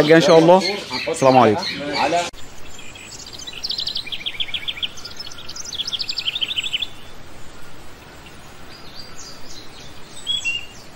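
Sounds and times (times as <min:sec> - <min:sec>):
small birds chirping: 0:00.0 - 0:10.9
steady background hiss: 0:00.0 - 0:10.9.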